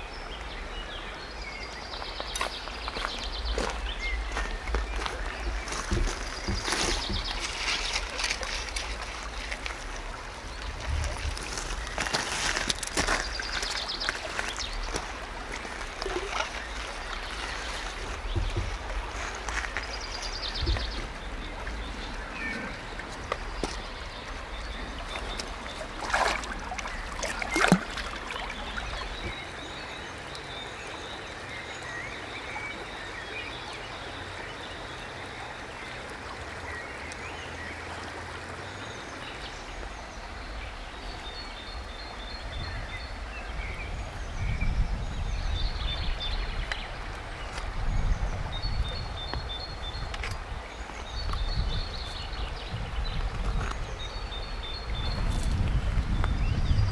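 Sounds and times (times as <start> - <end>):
small birds chirping: 0.0 - 32.5, 38.7 - 56.9
river water rushing over shallows: 0.0 - 56.9.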